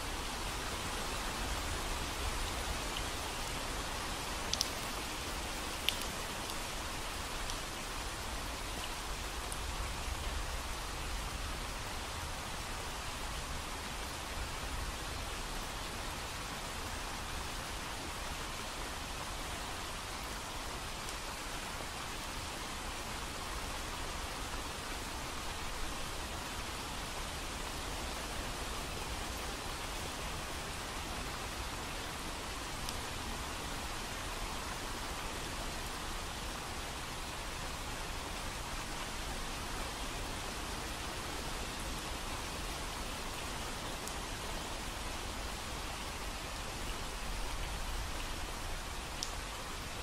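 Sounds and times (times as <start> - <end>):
steady rain hiss: 0.0 - 50.0.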